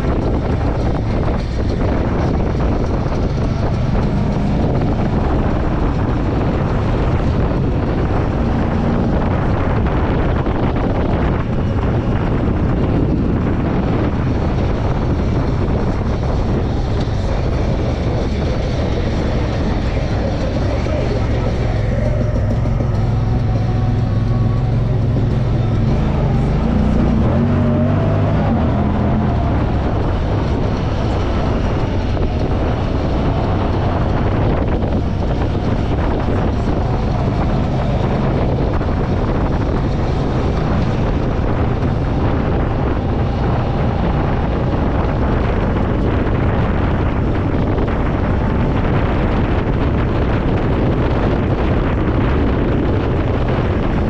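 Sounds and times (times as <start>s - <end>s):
off-road vehicle engine running: 0.0s - 54.0s
wind noise on microphone: 0.0s - 54.0s.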